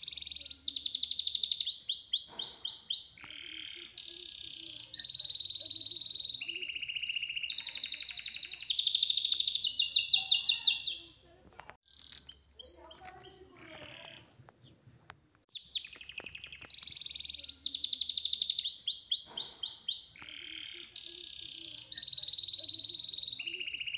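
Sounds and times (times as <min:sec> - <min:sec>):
songbird singing trilled phrases: 0:00.0 - 0:11.2, 0:11.8 - 0:14.8, 0:15.5 - 0:23.9.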